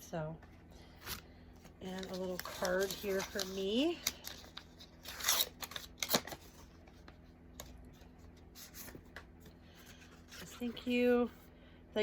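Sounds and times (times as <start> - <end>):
paper card rustling: 1.0 - 11.1.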